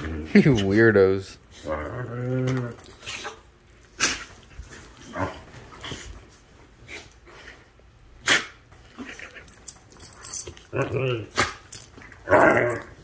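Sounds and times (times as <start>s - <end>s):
dogs play-wrestling vocalizing: 1.5s - 13.0s.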